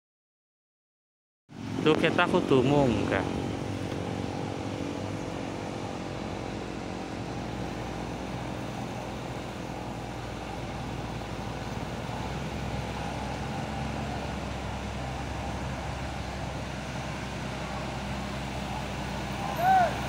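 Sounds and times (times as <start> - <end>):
road traffic: 1.5 - 20.0
truck diesel engine droning: 1.5 - 20.0.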